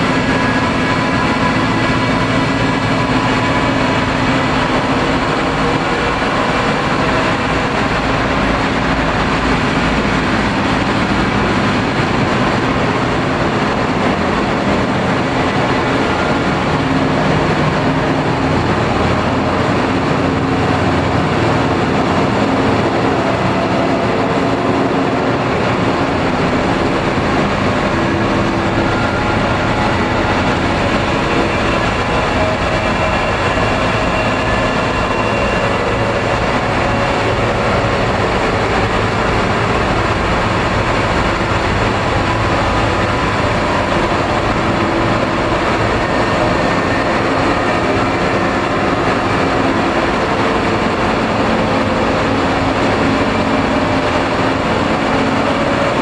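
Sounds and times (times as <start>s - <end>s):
dark ambient noise music: 0.0s - 56.0s.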